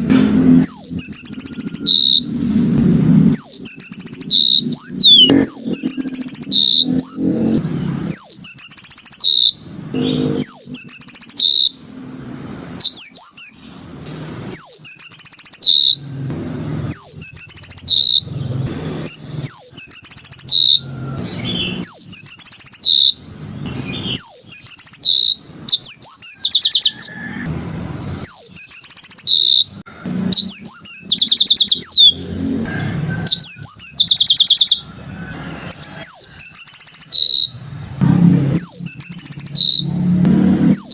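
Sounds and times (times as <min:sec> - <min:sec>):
canary singing chirps and trills: 0:00.0 - 0:40.9.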